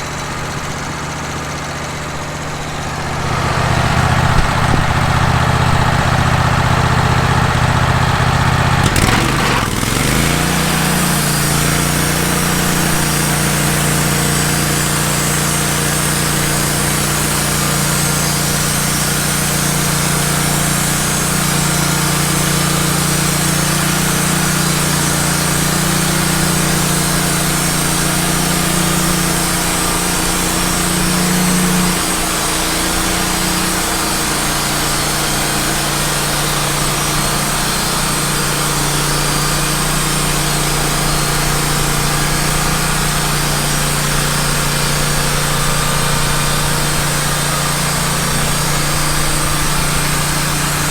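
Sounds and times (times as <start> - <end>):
sawmill engine running: 0.0 - 50.9
band blade sawing through log: 8.8 - 50.9.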